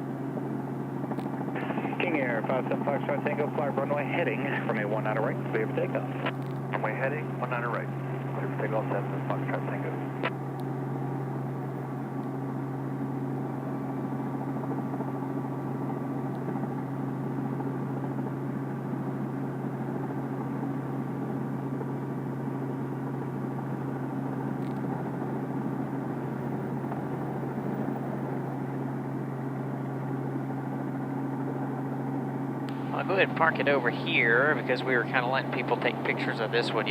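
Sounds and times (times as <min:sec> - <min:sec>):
helicopter engine and rotor drone: 0:00.0 - 0:36.9.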